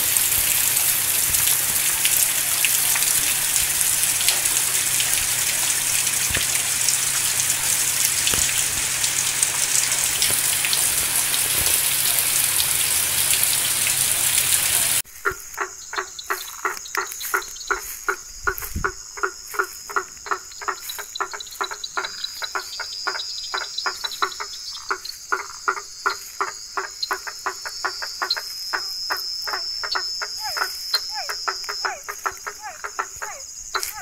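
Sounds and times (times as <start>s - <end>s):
frogs calling: 0.0s - 34.0s.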